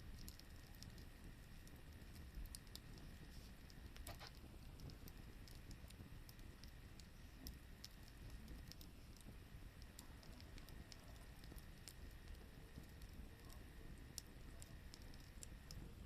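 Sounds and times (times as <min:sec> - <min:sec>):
firewood crackling: 0:00.0 - 0:16.0
small ticks and pops of fire: 0:00.0 - 0:16.0.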